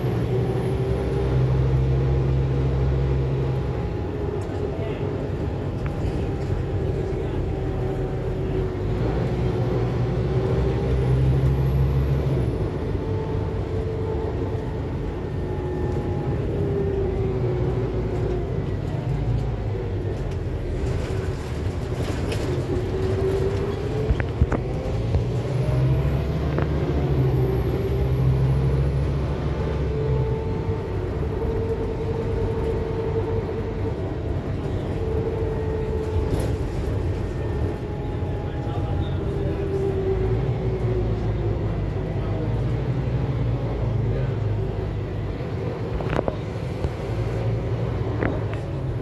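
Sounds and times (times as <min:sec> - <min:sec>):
bus diesel engine: 0:00.0 - 0:49.0.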